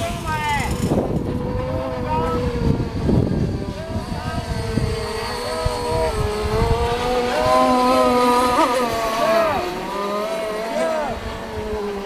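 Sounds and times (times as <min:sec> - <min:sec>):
small racing boat engines whining: 0:00.0 - 0:12.0.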